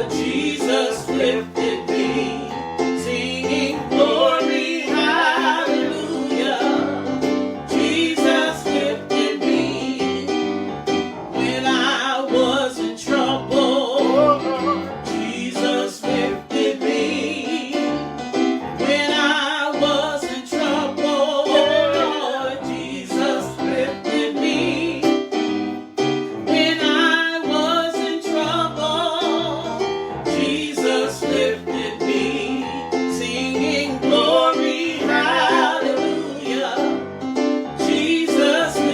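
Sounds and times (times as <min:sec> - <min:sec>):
piano: 0:00.0 - 0:38.9.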